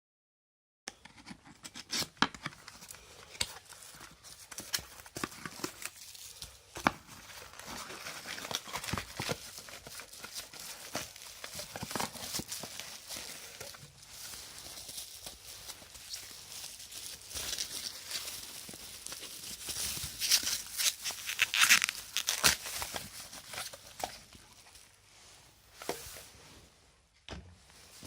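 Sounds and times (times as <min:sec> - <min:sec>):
cardboard and plastic crinkling: 0:01.2 - 0:25.0.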